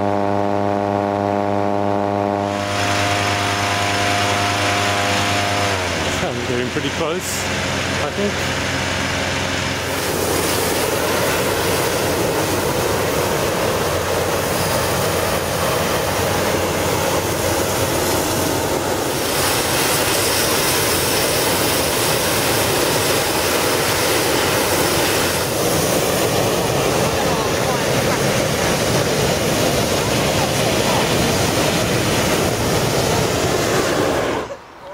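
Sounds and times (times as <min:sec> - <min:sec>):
propane burner firing: 0:01.1 - 0:34.8.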